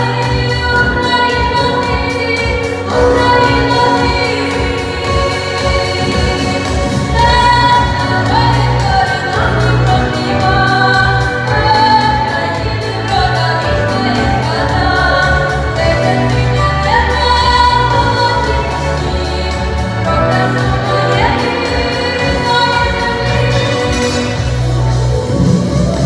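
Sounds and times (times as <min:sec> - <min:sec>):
choir-like singing: 0:00.0 - 0:26.0
instrumental accompaniment with bass: 0:00.0 - 0:26.0.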